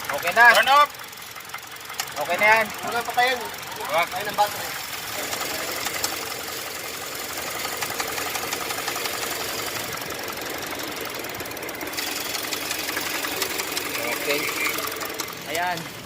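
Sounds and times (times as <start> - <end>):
car engine knocking: 0.0 - 16.0.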